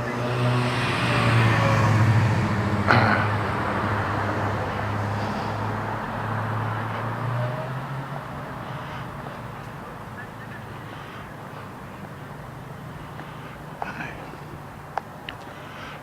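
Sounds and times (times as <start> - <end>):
motor vehicle running: 0.0 - 16.0.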